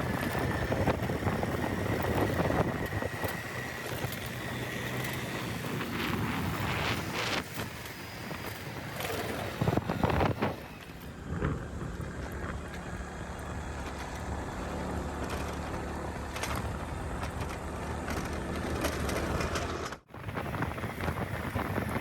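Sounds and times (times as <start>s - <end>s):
road and wind noise: 0.0s - 22.0s
vehicle engine running: 0.0s - 22.0s.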